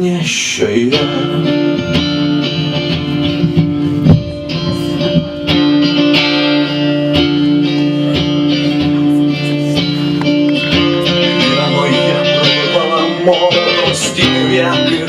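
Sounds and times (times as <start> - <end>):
live band guitars playing: 0.0 - 15.0.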